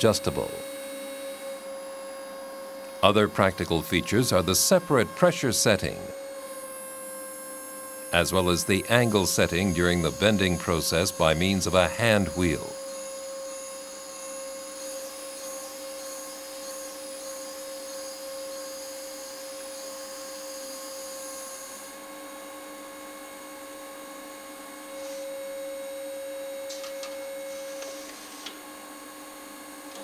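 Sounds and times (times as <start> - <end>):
hydraulic press hum and whine: 0.0 - 30.0.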